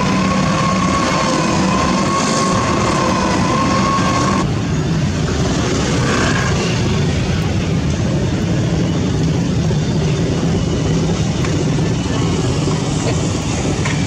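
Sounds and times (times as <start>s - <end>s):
heavy diesel engine running: 0.0s - 14.0s
high steady whine: 0.0s - 14.0s.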